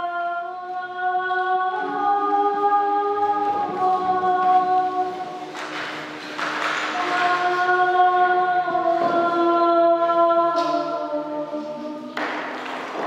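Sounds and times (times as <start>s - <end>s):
choral voices singing: 0.0s - 13.0s.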